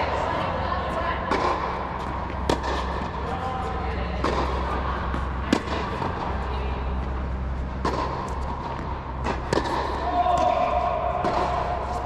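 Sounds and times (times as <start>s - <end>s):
steady low hum: 0.0s - 12.0s
tennis balls struck by rackets: 0.0s - 12.0s.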